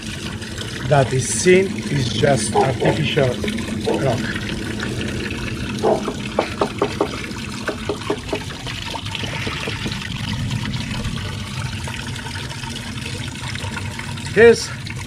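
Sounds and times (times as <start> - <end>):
water pouring and trickling: 0.0 - 15.0.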